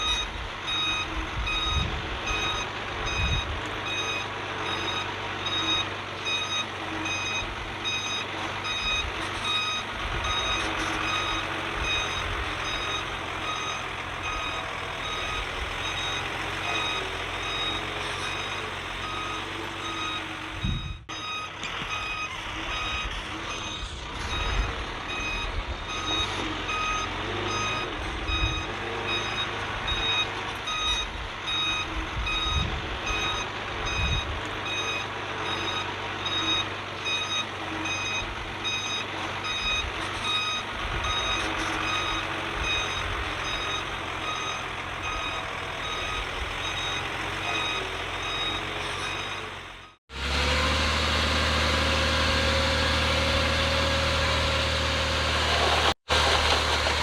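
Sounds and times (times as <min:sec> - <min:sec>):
backup alarm beeping: 0:00.0 - 0:50.0
diesel engine rumbling: 0:00.0 - 0:57.0.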